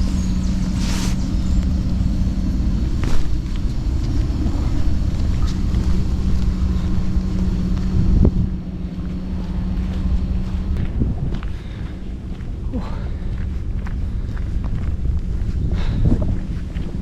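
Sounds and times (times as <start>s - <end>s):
low hum: 0.0s - 17.0s
wind buffeting microphone: 0.0s - 17.0s.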